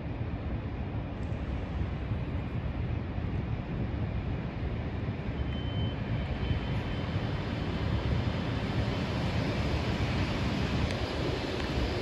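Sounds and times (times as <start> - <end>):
electric train low rumble: 0.0 - 12.0.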